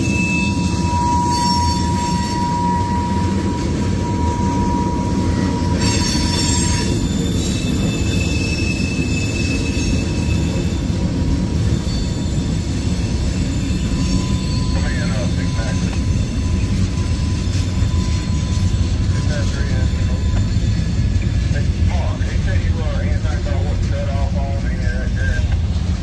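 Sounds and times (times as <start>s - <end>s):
high wheel squeal: 0.0s - 25.5s
train wheels rumbling on rail: 0.0s - 26.0s.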